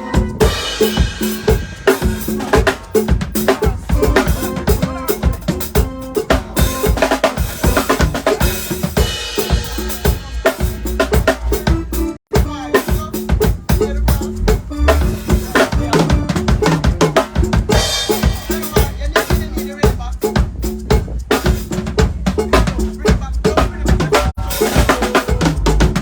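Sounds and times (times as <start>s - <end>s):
drum-heavy music with bassline: 0.0s - 26.0s.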